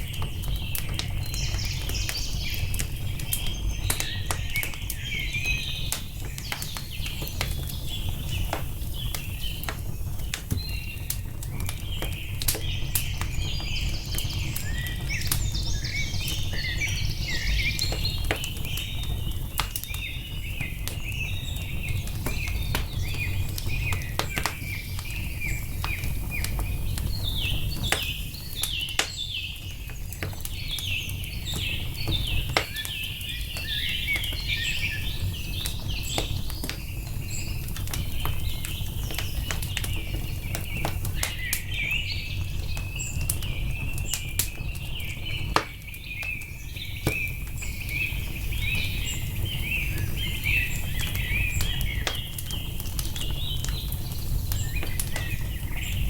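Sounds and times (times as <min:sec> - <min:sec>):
small birds chirping: 0:00.0 - 0:56.0
wood fire crackling and popping: 0:00.0 - 0:56.0.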